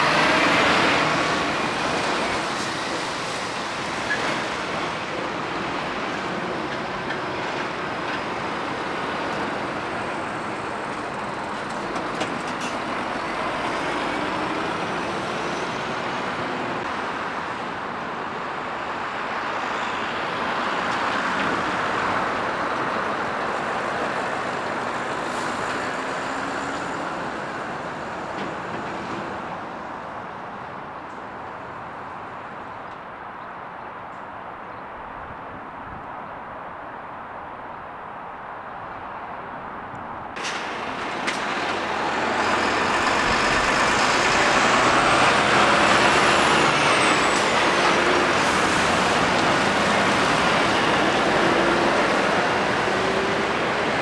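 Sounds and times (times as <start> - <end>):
diesel truck engines: 0.0 - 54.0
traffic noise: 0.0 - 54.0
tyres on tarmac: 0.0 - 54.0.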